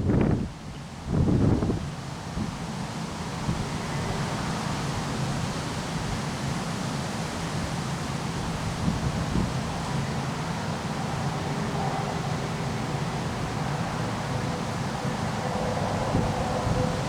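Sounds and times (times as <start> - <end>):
wind blowing through leaves: 0.0 - 17.0.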